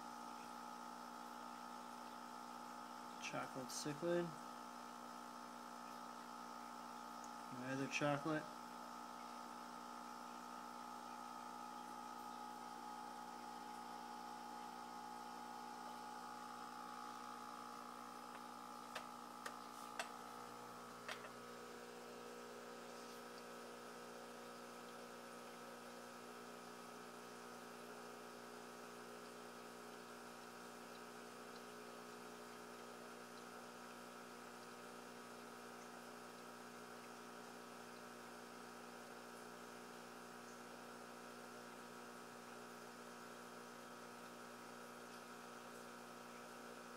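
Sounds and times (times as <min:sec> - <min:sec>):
aquarium equipment humming: 0:00.0 - 0:46.9.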